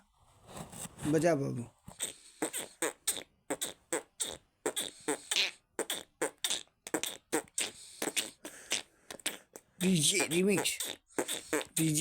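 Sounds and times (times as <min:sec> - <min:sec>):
boy beatboxing: 0:01.9 - 0:12.0.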